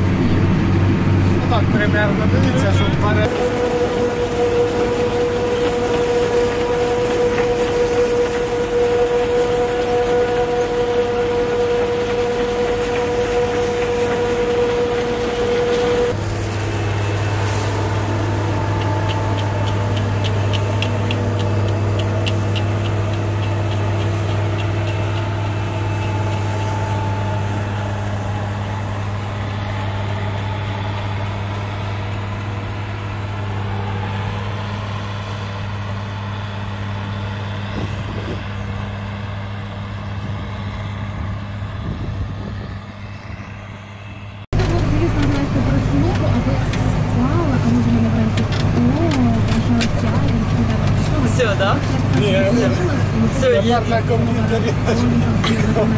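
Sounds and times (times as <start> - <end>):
harvester engine and chopper drone: 0.0 - 55.9.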